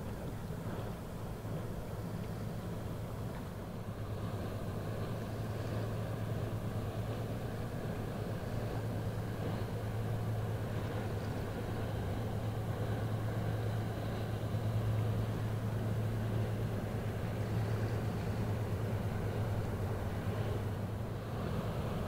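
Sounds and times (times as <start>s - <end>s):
ship diesel engine drone: 0.0s - 22.0s.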